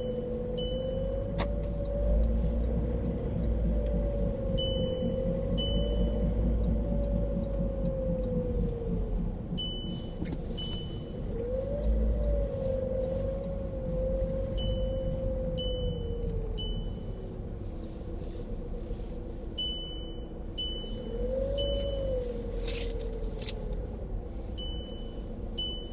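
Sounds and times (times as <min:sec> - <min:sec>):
road rumble: 0:00.0 - 0:25.9
wheel whining hum: 0:00.0 - 0:25.9.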